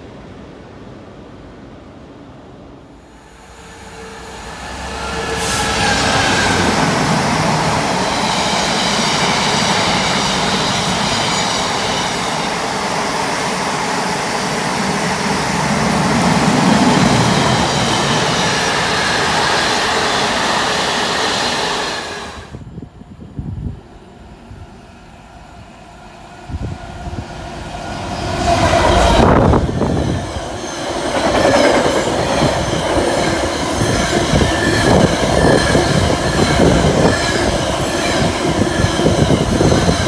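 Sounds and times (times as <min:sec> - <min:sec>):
diesel locomotive passing: 0:00.0 - 0:40.0.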